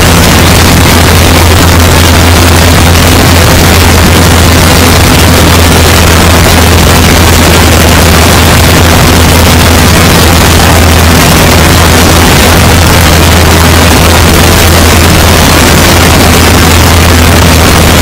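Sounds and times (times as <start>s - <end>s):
propeller plane engine: 0.0s - 18.0s
wind rush over microphone: 0.0s - 18.0s.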